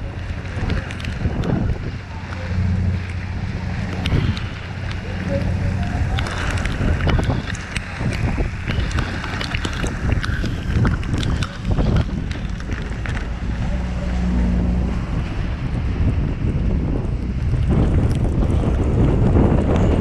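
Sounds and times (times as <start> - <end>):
low hum: 0.0 - 20.0
wind buffeting microphone: 0.0 - 20.0.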